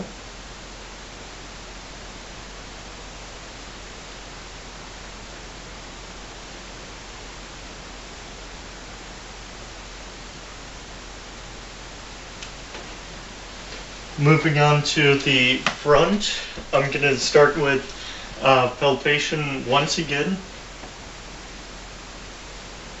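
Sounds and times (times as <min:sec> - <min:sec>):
low hum: 0:00.0 - 0:23.0
steady hiss: 0:00.0 - 0:23.0.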